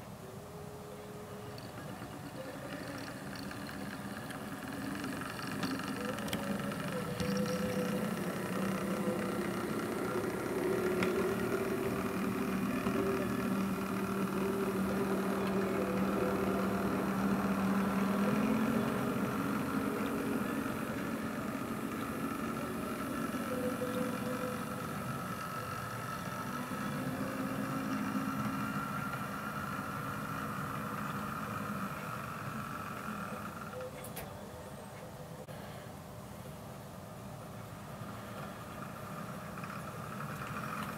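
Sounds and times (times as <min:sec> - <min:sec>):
model locomotive engine drone: 0:00.0 - 0:40.9.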